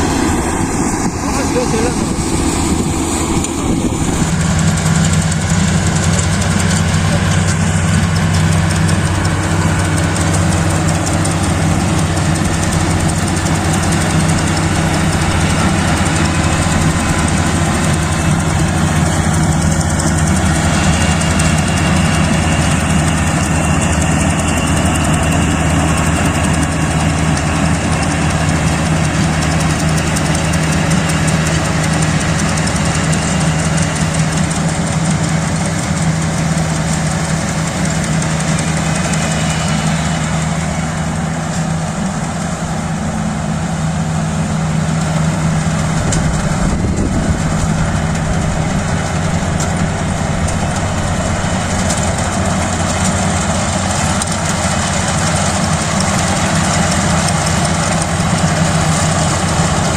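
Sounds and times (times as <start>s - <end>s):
combine harvester diesel engine: 0.0s - 59.9s
machinery noise: 0.0s - 59.9s.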